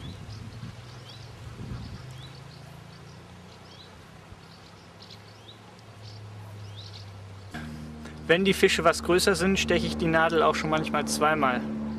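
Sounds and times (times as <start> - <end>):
small birds chirping: 0.0 - 11.9
low steady hum: 1.9 - 11.9.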